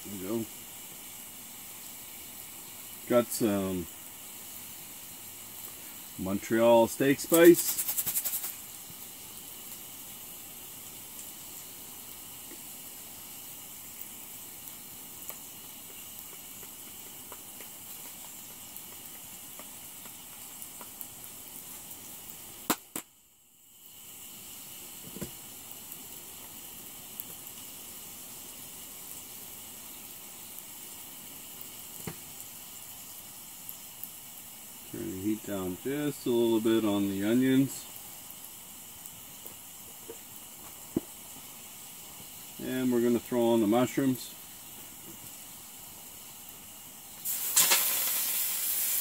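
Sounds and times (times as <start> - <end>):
onions sizzling in a pan: 0.0 - 49.0.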